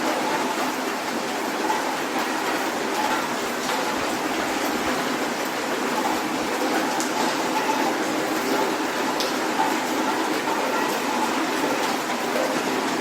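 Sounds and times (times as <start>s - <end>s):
soft rain falling: 0.0s - 13.0s.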